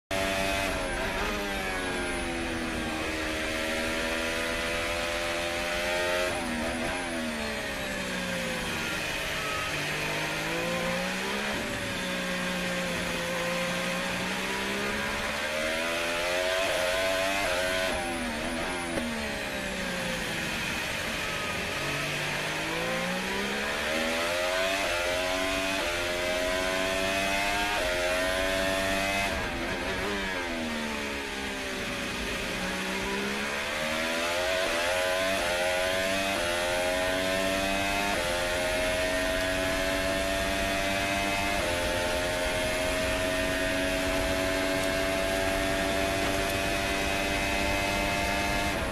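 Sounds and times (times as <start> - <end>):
racing car engine revving: 0.1 - 48.9
gear changes: 0.2 - 48.9.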